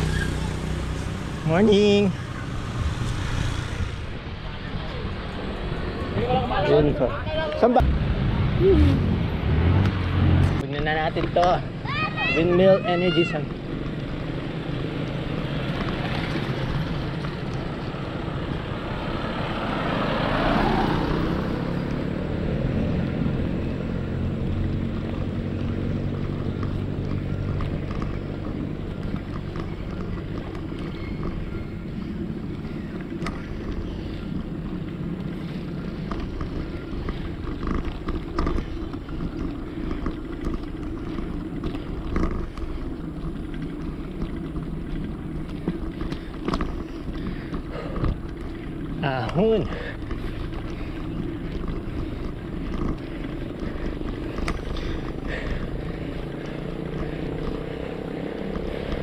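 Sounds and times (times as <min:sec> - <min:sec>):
motor vehicle passing: 0:00.0 - 0:59.0.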